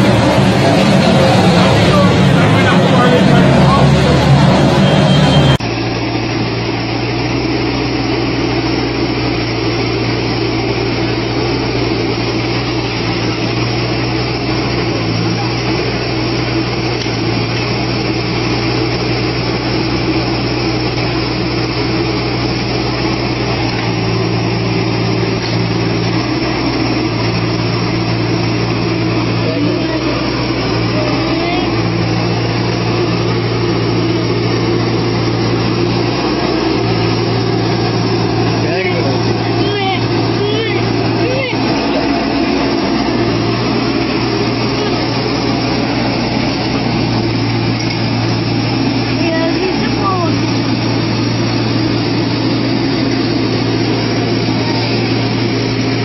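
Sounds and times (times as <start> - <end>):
diesel engine and snow blower hum: 0.0 - 56.0.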